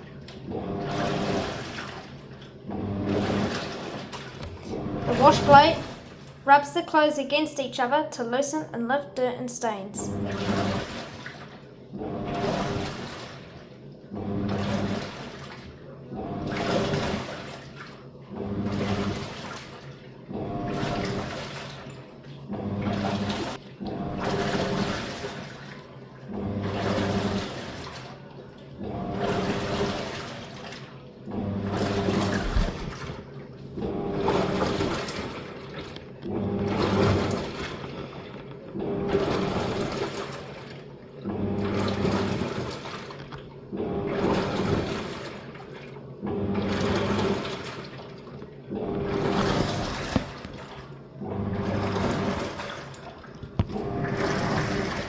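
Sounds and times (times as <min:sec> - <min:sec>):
water swishing in a tub: 0:00.0 - 0:07.1, 0:10.0 - 0:55.0
washing machine motor humming: 0:00.0 - 0:55.0.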